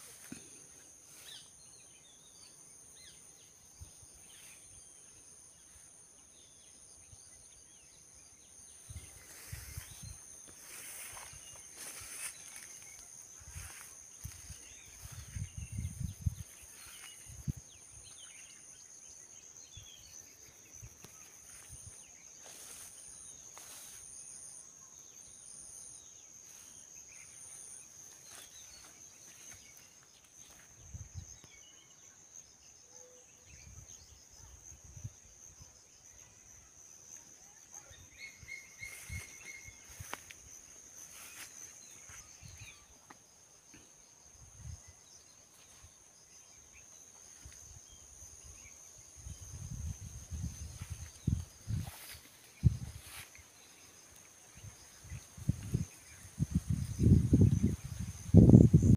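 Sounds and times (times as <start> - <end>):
insect chirp pulsing: 0.0 - 58.9
insect high-pitched trill: 8.5 - 58.9.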